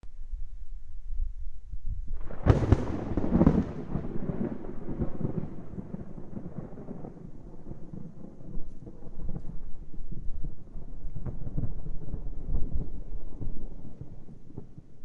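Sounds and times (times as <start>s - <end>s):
thunder rumbling and cracking: 2.0s - 15.0s.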